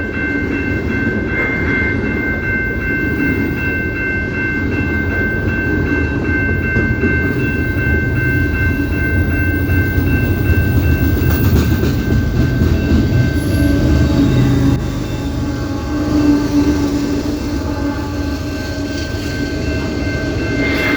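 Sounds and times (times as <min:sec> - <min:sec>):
high ringing tone: 0:00.0 - 0:20.9
train rolling past: 0:00.0 - 0:20.9.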